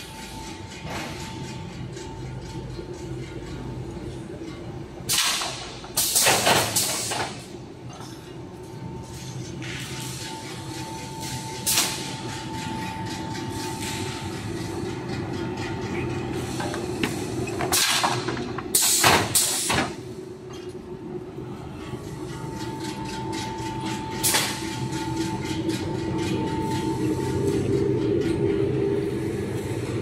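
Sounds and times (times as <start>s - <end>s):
faint machine whine: 0.0s - 5.8s, 7.3s - 18.8s, 19.8s - 30.0s.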